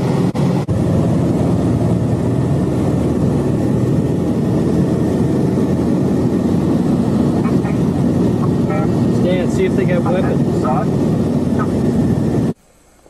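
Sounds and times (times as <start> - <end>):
aircraft engine drone in cabin: 0.0 - 13.0.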